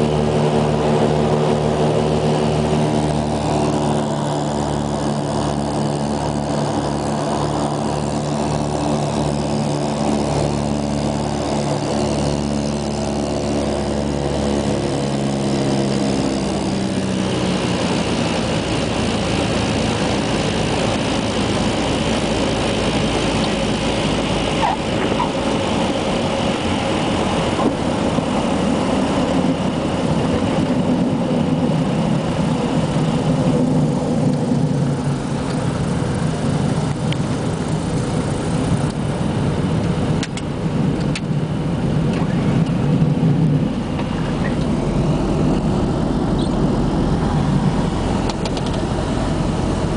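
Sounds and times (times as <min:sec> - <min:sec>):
propeller aircraft engines droning: 0:00.0 - 0:49.9.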